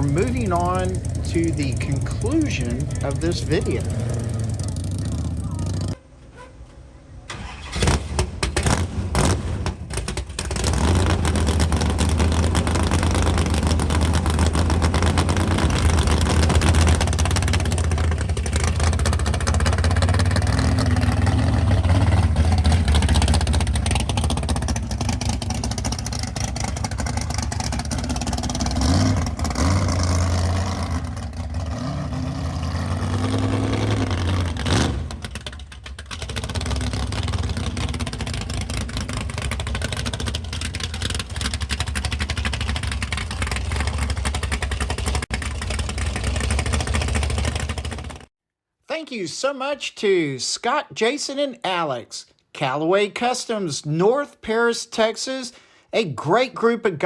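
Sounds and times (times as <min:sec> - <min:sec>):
engine revving: 0:00.0 - 0:06.0, 0:07.4 - 0:48.3
car engine driving away: 0:00.0 - 0:06.1, 0:07.3 - 0:48.3.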